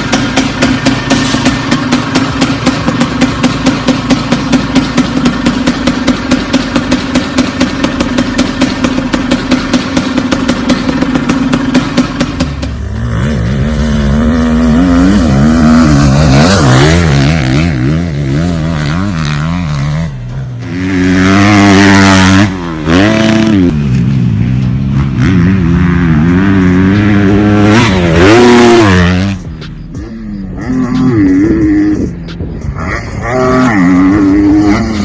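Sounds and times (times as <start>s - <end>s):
vehicle engine revving: 0.0s - 35.0s.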